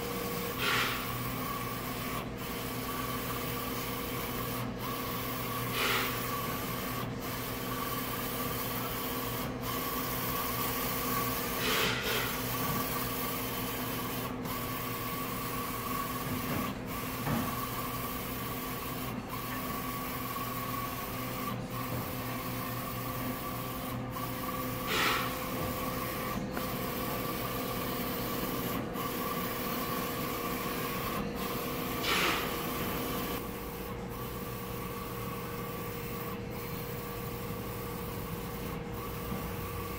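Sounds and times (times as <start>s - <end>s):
inkjet printer whirring: 0.0s - 39.9s.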